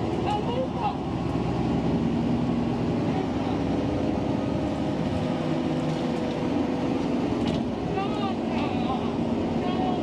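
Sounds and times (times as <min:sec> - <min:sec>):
bus engine and road drone: 0:00.0 - 0:10.0.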